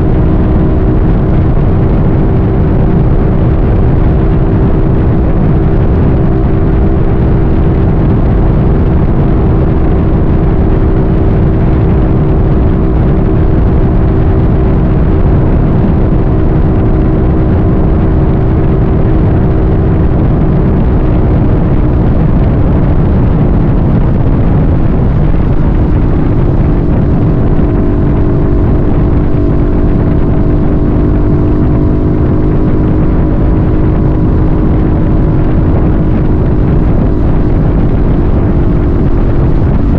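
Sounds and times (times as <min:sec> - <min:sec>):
heavy wind: 0:00.0 - 0:39.9
road rumble: 0:00.0 - 0:39.9
vehicle engine hum: 0:00.0 - 0:39.9.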